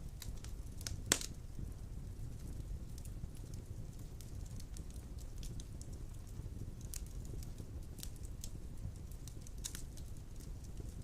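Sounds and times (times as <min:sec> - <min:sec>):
fire crackles and pops: 0:00.0 - 0:11.0
fire rumbling: 0:00.0 - 0:11.0.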